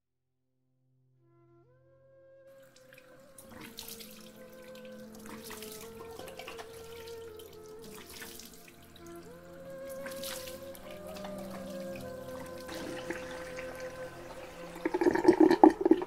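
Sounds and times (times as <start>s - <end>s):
soft sustained music: 1.2s - 16.0s
running water splashing: 2.8s - 16.0s.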